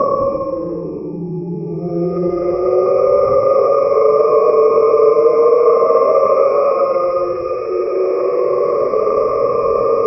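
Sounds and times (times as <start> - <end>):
eerie synthesized drone: 0.0 - 10.0.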